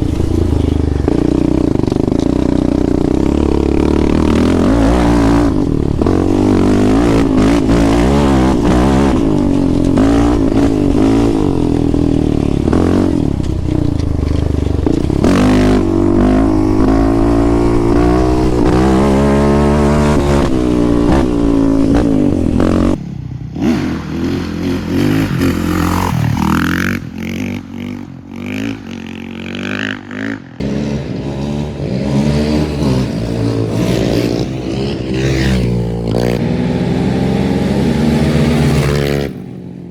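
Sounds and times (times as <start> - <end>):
off-road vehicle engine revving: 0.0 - 23.0, 23.6 - 39.5.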